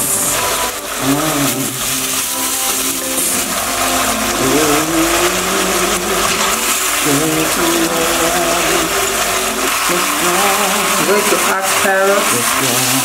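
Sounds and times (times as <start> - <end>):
spatula stirring: 0.0 - 13.0.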